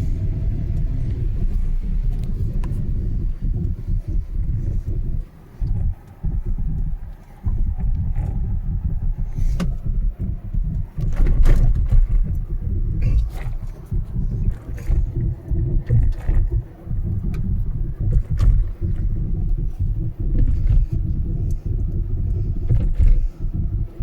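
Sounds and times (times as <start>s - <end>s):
low rumble of road and wind: 0.0s - 24.0s.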